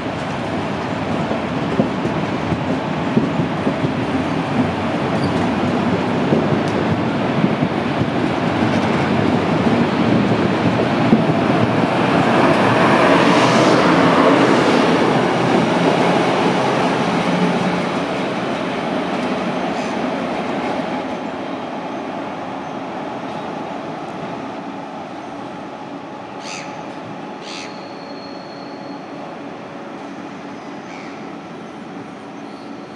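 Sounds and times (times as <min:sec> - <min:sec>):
train wheels and coaches rolling: 0:00.0 - 0:32.9.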